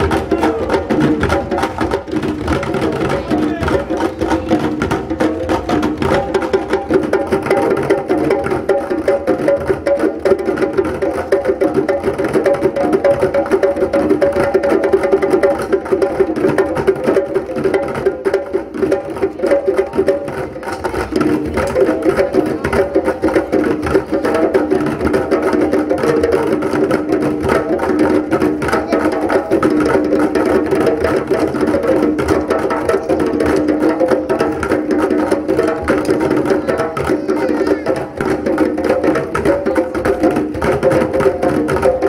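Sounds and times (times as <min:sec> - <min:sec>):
hand drums playing: 0:00.0 - 0:42.0.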